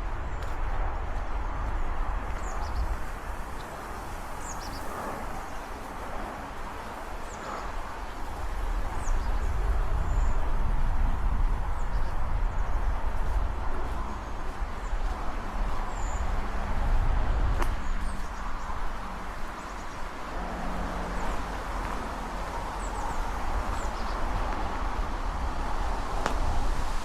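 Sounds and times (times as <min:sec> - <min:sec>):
small birds chirping: 0:00.0 - 0:26.9
wind on microphone: 0:00.0 - 0:27.0.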